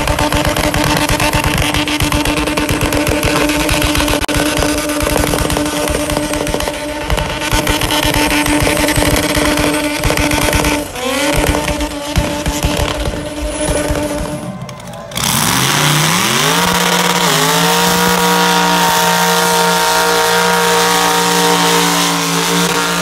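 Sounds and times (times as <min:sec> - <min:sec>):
car engine revving high: 0:00.0 - 0:14.5, 0:15.1 - 0:23.0.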